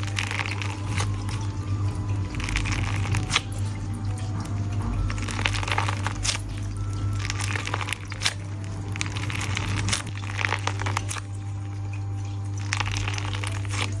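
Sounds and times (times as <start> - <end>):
steady low hum: 0.0 - 14.0
stress ball squishing and crackling: 0.0 - 14.0.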